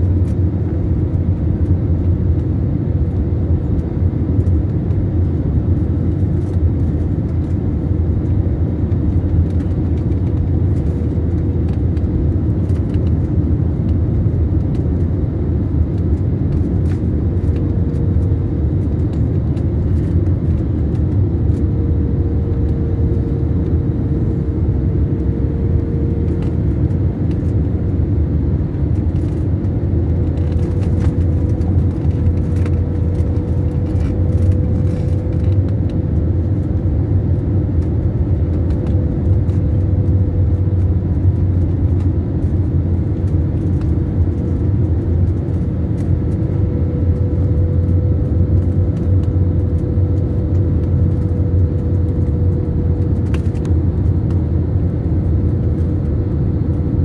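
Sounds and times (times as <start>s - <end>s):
airliner low rumble: 0.0s - 57.0s.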